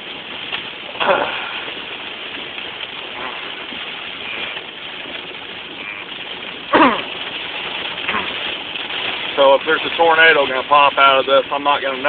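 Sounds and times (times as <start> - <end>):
heavy rain on vehicle: 0.0 - 12.0.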